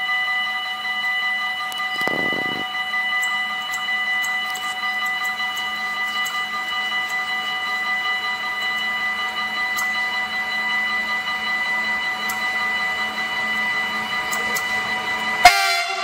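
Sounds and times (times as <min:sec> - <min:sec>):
train high whine: 0:00.0 - 0:16.0.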